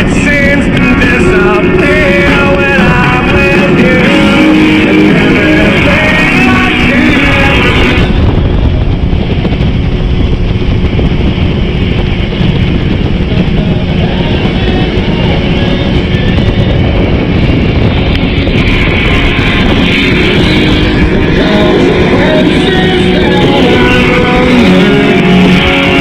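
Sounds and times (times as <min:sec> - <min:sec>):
motorboat engine rumble: 0:00.0 - 0:26.0
rock song with guitar: 0:00.0 - 0:26.0
wind on microphone: 0:00.0 - 0:26.0.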